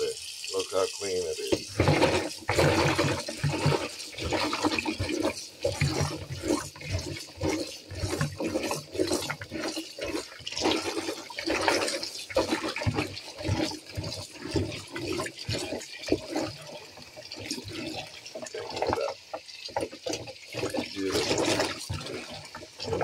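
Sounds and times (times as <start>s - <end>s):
water sloshing in plastic bowl: 0.0s - 23.0s
tap running into bowl: 0.9s - 10.4s, 11.8s - 23.0s.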